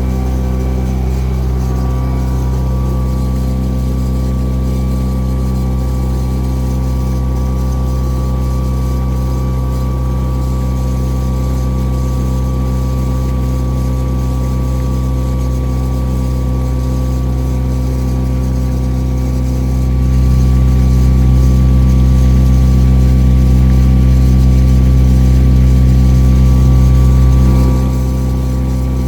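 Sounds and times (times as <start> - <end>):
boat engine humming: 0.0 - 14.6, 18.4 - 29.0.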